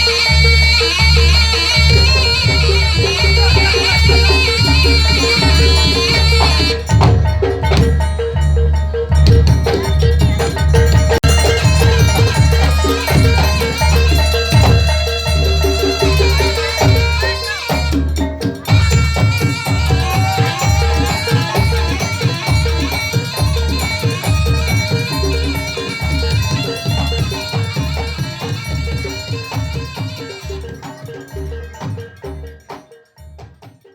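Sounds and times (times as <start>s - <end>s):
deep drum beat: 0.0s - 32.7s
high melody: 0.0s - 33.1s.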